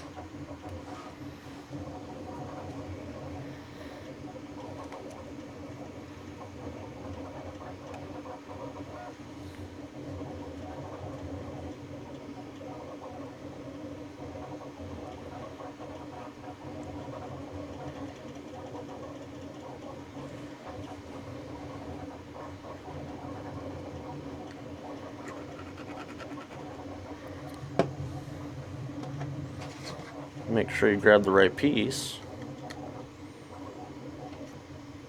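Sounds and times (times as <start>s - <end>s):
cooling fans: 0.0s - 35.0s
steady hum: 0.0s - 35.0s.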